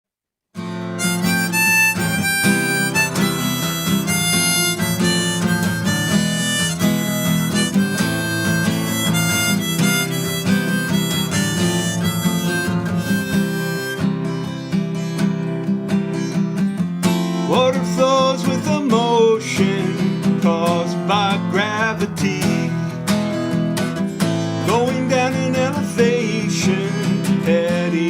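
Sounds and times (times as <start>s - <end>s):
harmonica melody: 0.6s - 16.4s, 19.8s - 28.0s
strummed acoustic guitar: 0.6s - 28.0s.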